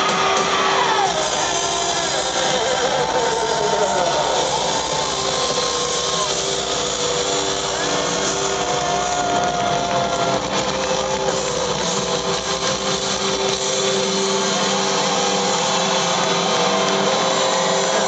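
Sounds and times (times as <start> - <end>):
heavy metal band playing: 0.0 - 18.0.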